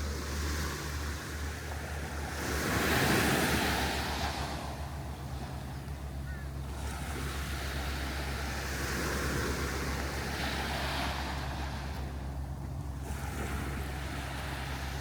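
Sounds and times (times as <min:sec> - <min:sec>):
surf washing onto a beach: 0:00.0 - 0:15.0
wind rumble on microphone: 0:00.0 - 0:15.0.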